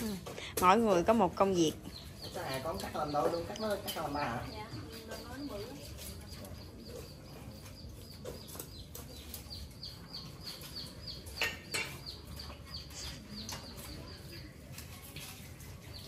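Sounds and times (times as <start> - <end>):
bird chirping: 0.6 - 16.0.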